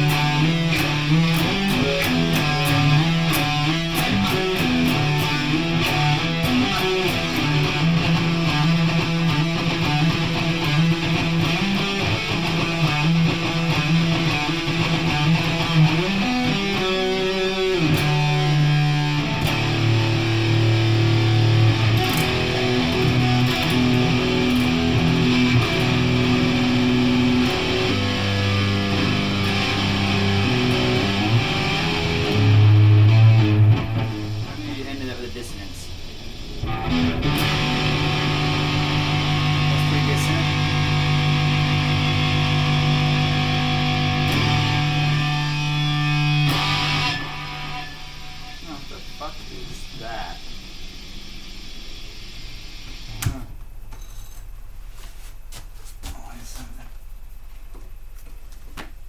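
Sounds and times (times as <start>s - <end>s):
electric guitar held notes: 0.0s - 53.4s.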